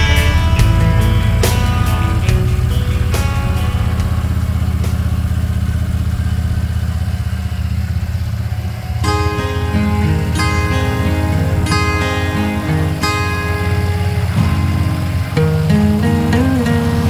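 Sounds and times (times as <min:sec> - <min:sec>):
guitar music: 0:00.0 - 0:17.0
motorcycle engine cruising: 0:00.0 - 0:17.0.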